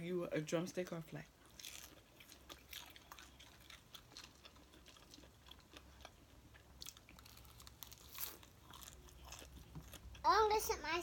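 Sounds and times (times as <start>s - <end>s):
chewing crispy chicken: 1.4s - 10.3s.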